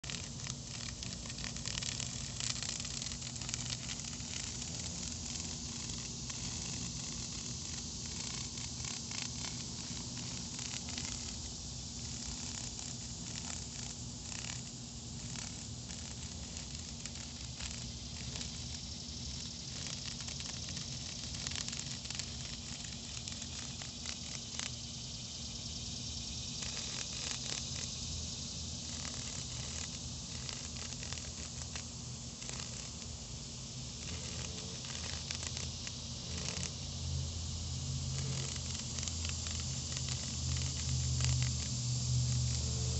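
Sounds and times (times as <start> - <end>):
cicada buzzing: 0.0 - 42.9.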